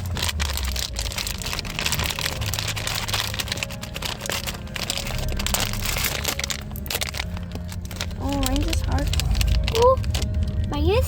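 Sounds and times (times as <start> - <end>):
plastic packaging crinkling: 0.0 - 11.0
steady low rumble: 0.0 - 11.0.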